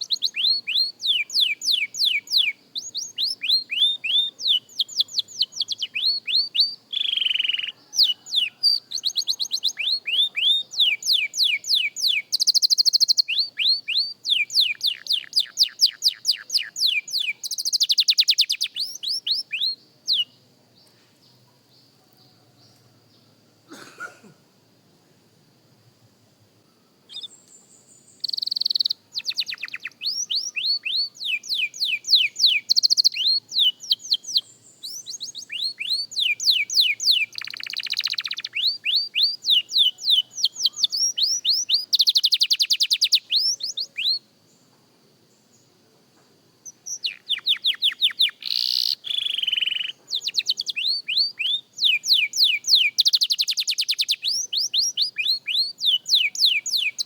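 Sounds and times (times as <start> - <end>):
canary singing trills: 0.0 - 20.5, 26.7 - 44.3, 46.6 - 57.0.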